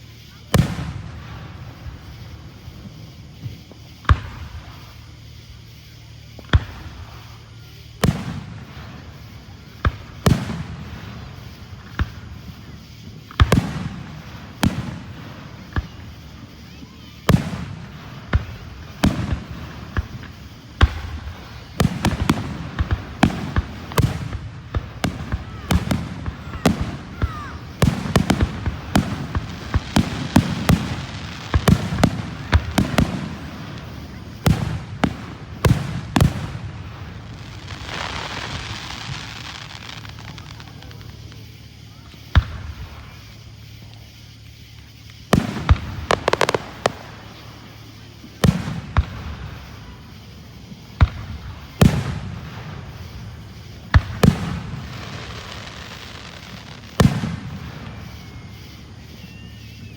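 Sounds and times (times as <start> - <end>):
aerial fireworks bangs: 6.3 - 43.3, 45.3 - 59.9.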